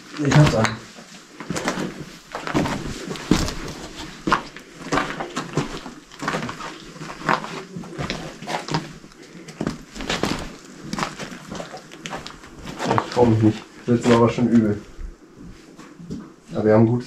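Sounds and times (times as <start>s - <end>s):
footsteps crunching over rubble: 0.0s - 16.7s.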